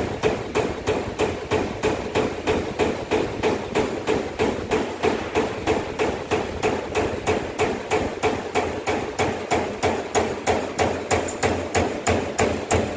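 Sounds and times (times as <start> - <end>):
punch press striking sheet metal: 0.0 - 12.9.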